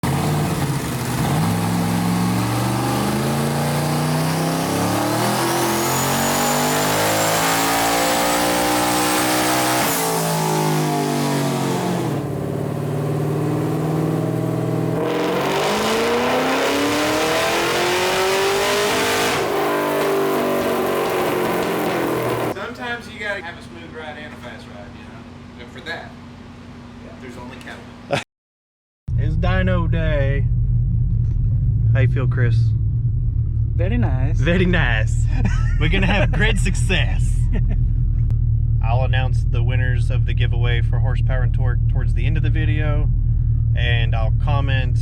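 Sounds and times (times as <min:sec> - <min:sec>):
car engine accelerating: 0:00.0 - 0:22.6, 0:29.1 - 0:45.0.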